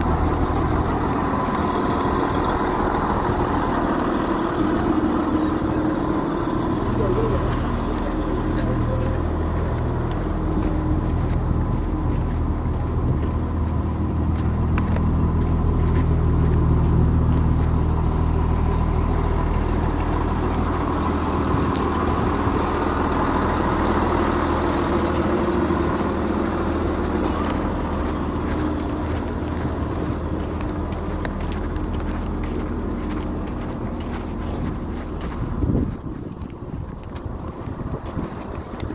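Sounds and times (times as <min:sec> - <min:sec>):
diesel train engine humming: 0:00.0 - 0:38.9.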